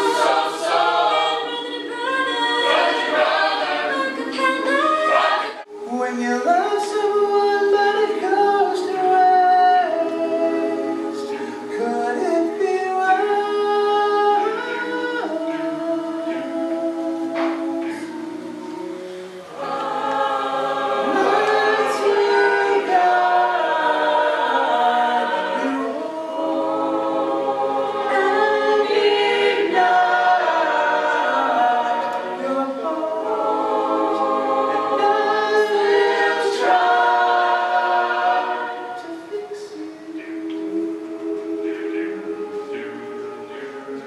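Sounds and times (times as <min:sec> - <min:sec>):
a cappella group singing: 0:00.0 - 0:44.0.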